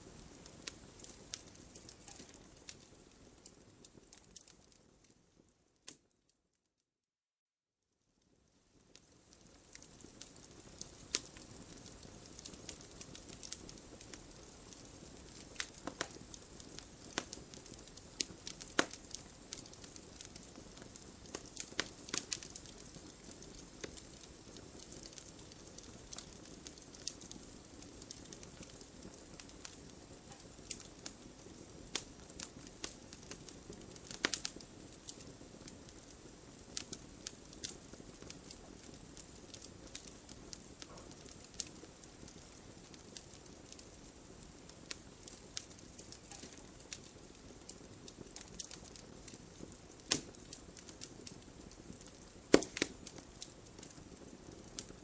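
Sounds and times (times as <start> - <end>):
wood fire crackling: 0.0 - 6.3, 8.2 - 55.0.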